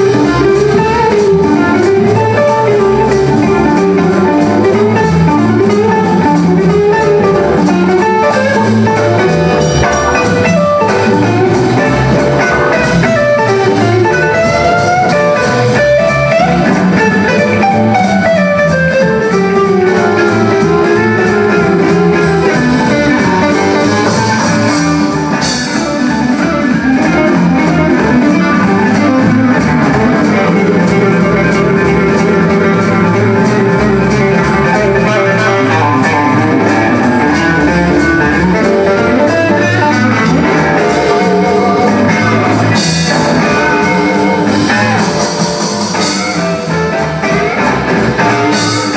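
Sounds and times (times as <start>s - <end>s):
blues band playing: 0.0s - 48.9s
electric guitar solo: 0.0s - 48.9s.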